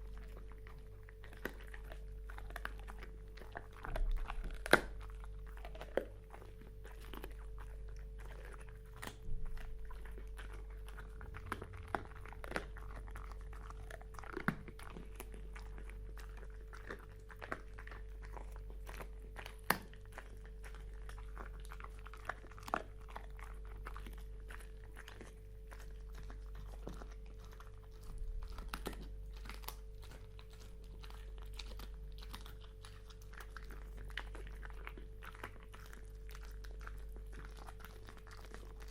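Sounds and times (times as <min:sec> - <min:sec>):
dog chewing on bone: 0:00.0 - 0:38.9
steady low hum: 0:00.0 - 0:38.9.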